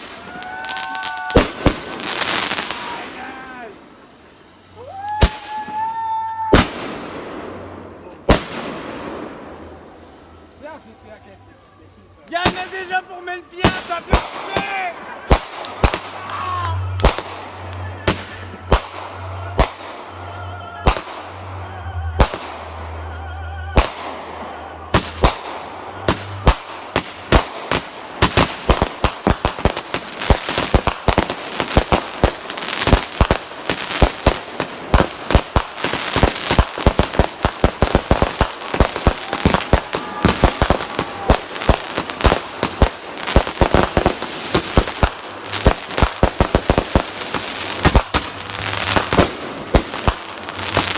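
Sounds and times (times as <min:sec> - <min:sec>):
fireworks bangs and pops: 0:00.0 - 0:03.3, 0:05.0 - 0:09.8, 0:12.3 - 0:20.1, 0:20.8 - 0:21.4, 0:22.1 - 0:22.8, 0:23.8 - 0:24.2, 0:24.9 - 0:50.9
crackling fireworks barrage: 0:00.0 - 0:10.8, 0:12.3 - 0:50.9.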